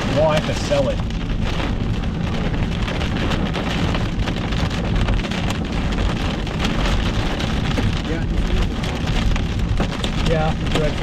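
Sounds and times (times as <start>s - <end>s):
low rumble: 0.0s - 11.0s
rain and hail on car roof: 0.0s - 11.0s.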